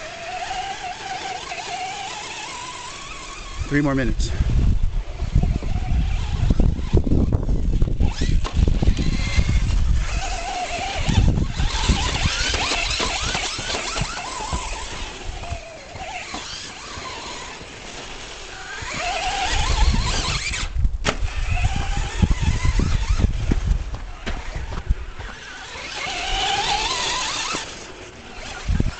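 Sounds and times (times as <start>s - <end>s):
rc truck motor whine: 0.0s - 28.9s
tyres on dirt: 0.0s - 28.9s.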